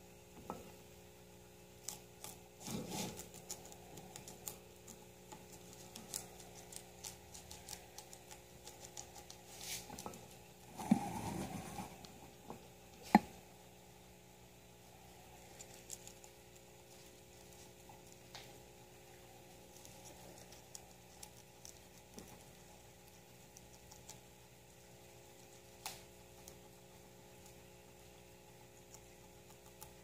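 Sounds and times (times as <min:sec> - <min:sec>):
guinea pig chewing crunchily: 0:00.6 - 0:13.4, 0:14.2 - 0:30.0.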